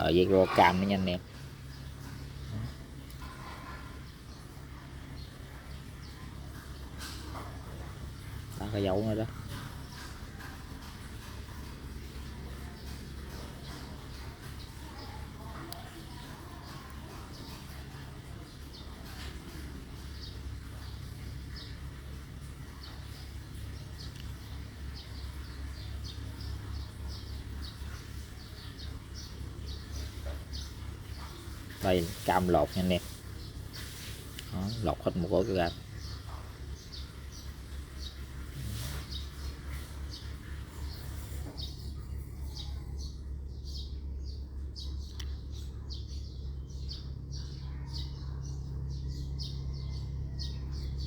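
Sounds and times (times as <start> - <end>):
small bird chirping: 0.0 - 51.0
steady low hum: 0.0 - 51.0.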